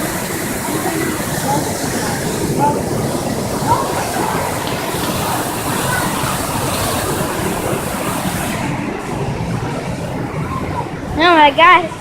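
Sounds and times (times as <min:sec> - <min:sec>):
faint voices: 0:00.0 - 0:12.0
rushing water: 0:00.0 - 0:12.0.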